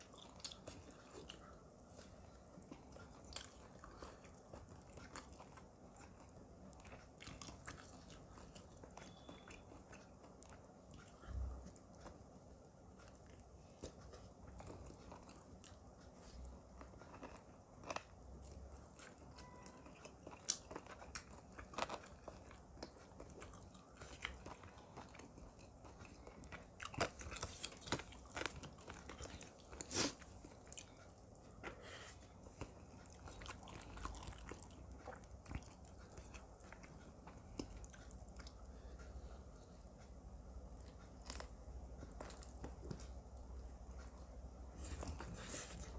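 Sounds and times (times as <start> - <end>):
chewing and biting food: 0.0 - 39.7, 40.6 - 44.3.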